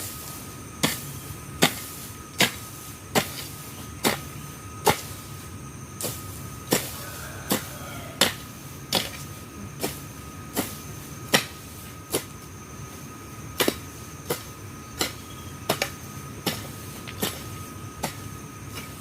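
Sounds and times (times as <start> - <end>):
hand tool chopping into ground: 0.8 - 5.2, 6.0 - 12.4, 13.6 - 19.0.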